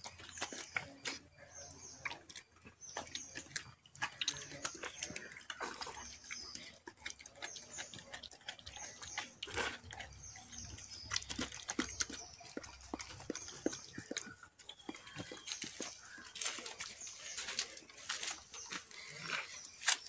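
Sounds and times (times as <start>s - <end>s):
dog licking and chewing: 0.0s - 20.0s.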